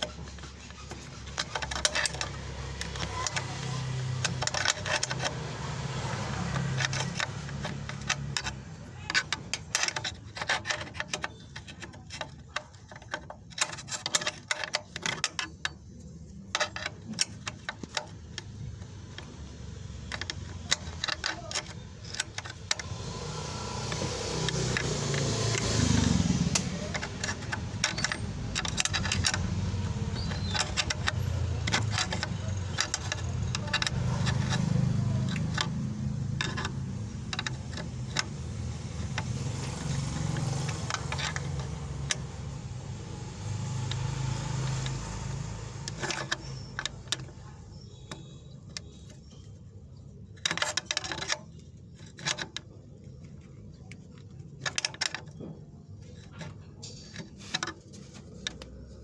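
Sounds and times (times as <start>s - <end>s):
tools clicking and rattling: 0.0s - 59.0s.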